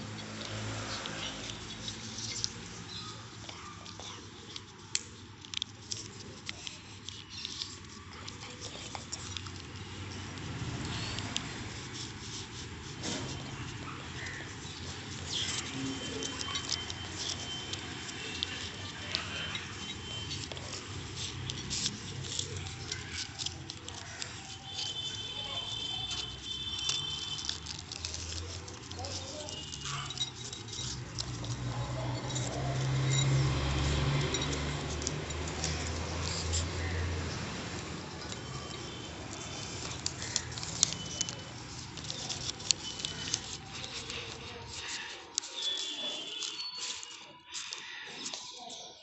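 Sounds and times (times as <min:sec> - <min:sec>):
paper folding and rustling: 0:00.0 - 0:49.0.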